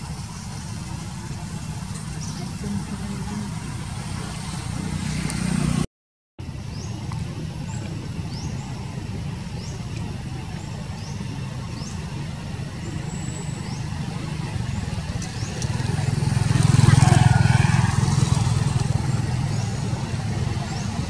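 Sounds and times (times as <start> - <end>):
vehicle engine running: 0.0 - 5.9, 6.5 - 21.0.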